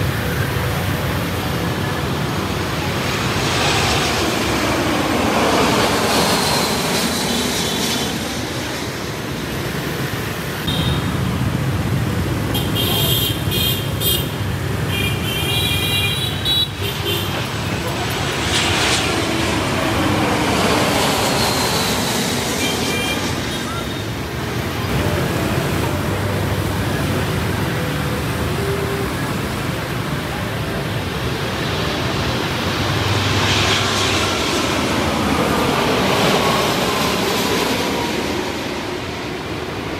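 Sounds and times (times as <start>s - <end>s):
jet airliner passing overhead: 0.0s - 39.9s
road traffic noise: 0.0s - 39.9s.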